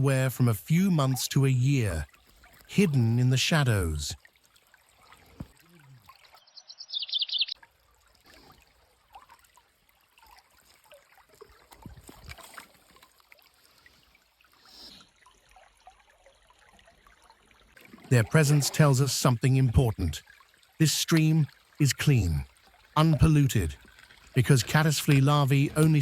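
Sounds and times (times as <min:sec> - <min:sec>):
stream trickling: 0:00.0 - 0:26.0.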